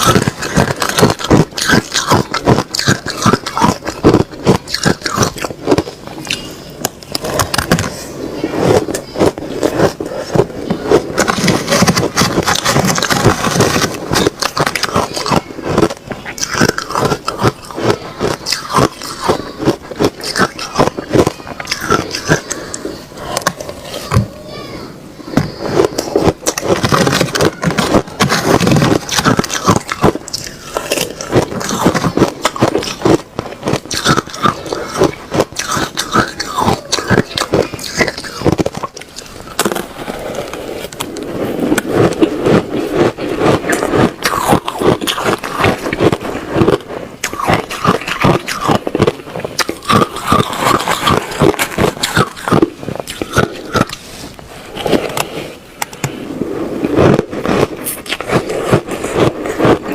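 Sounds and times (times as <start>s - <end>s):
ice being crunched and chewed: 0.0s - 24.6s, 25.3s - 59.9s.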